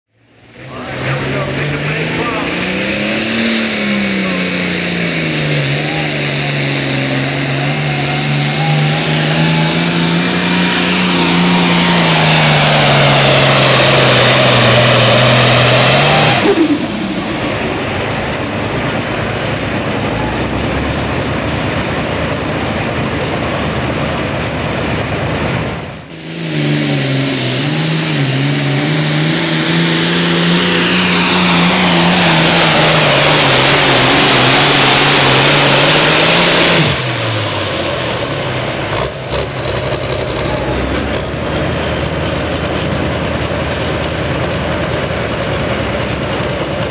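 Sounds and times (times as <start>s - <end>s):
pulling tractor engine: 0.1s - 46.9s.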